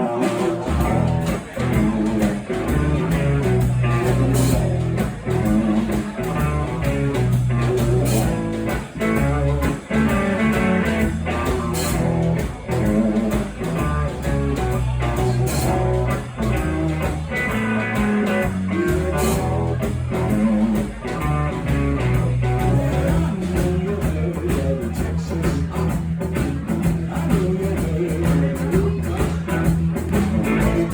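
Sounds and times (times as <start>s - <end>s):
blues-rock band playing: 0.0s - 30.9s
electric guitar: 0.0s - 30.9s.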